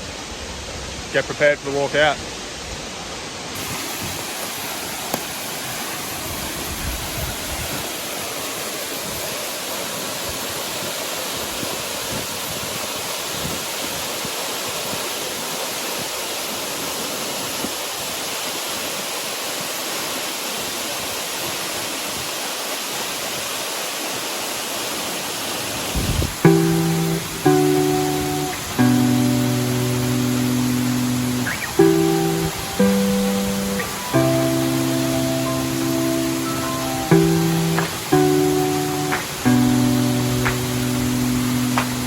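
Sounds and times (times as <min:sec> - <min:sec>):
waterfall rushing: 0:02.2 - 0:42.0.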